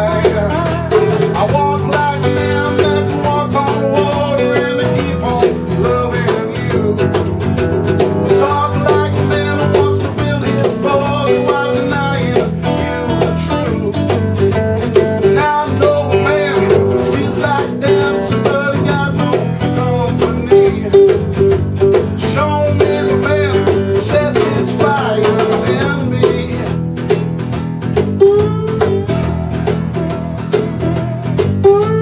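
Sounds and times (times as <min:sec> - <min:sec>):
acoustic blues band playing: 0:00.0 - 0:32.0
sliding guitar notes: 0:00.0 - 0:32.0.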